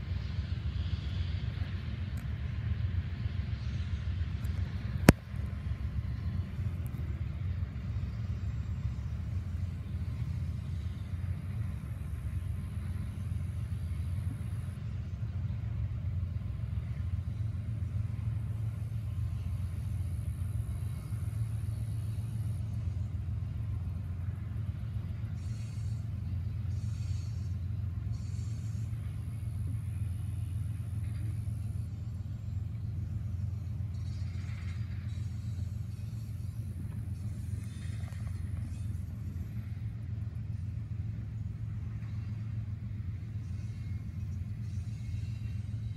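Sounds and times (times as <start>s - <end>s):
freight train rumbling on rails: 0.0s - 45.9s.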